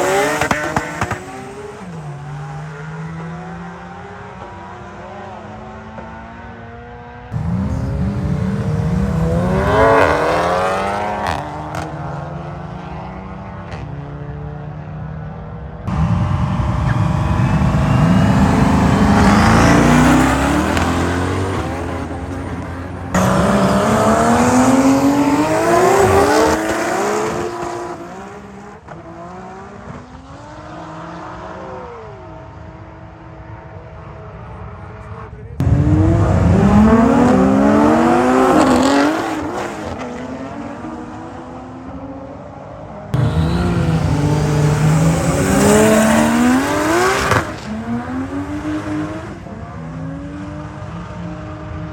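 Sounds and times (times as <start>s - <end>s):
car engines accelerating hard: 0.0s - 51.9s.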